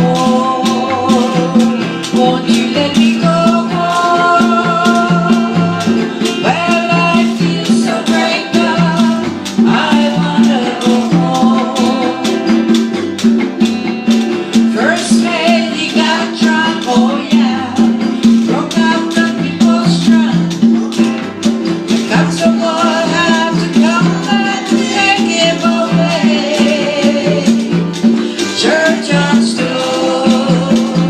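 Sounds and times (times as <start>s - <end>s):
congas: 0.0s - 31.0s
latin band playing: 0.0s - 31.0s
person singing: 0.0s - 31.0s.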